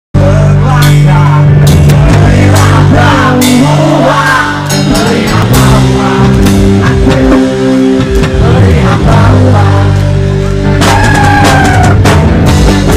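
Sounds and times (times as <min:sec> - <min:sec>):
bass guitar: 0:00.1 - 0:12.9
electric guitar: 0:00.2 - 0:12.9
drum kit with cymbal crashes: 0:00.8 - 0:09.3, 0:10.7 - 0:12.9.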